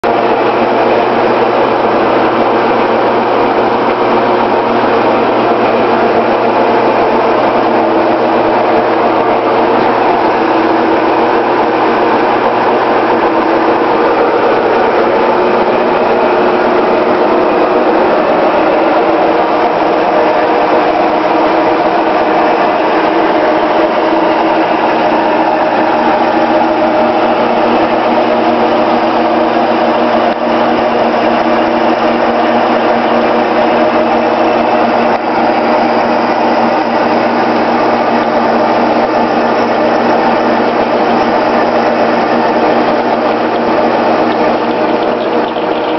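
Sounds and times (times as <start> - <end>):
metal lathe running: 0.0 - 45.9.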